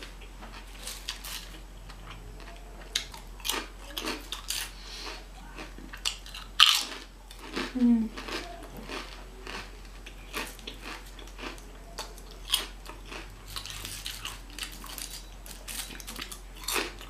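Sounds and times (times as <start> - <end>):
chewing crunchy chips: 0.0 - 17.0.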